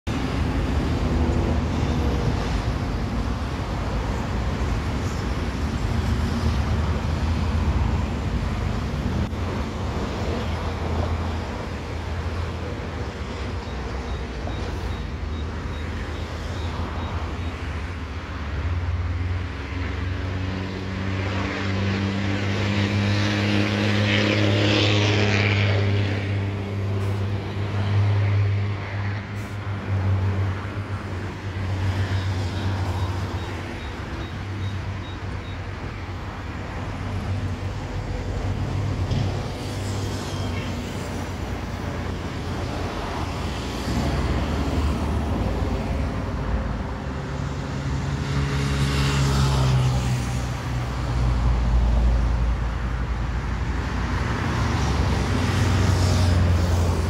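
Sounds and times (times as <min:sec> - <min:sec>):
road traffic: 0:00.0 - 0:57.0.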